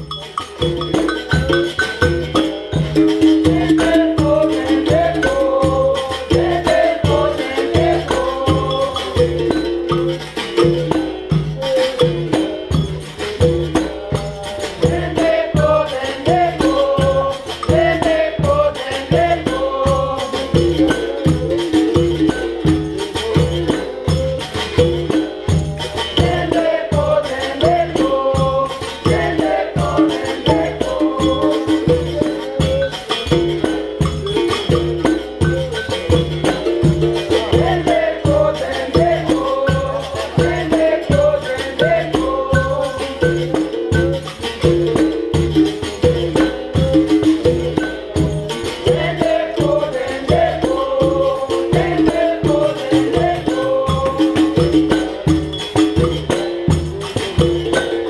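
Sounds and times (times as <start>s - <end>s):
berimbaus with rattles: 0.0s - 58.0s
group singing: 0.0s - 58.0s
hand drums playing rhythm: 0.0s - 58.0s.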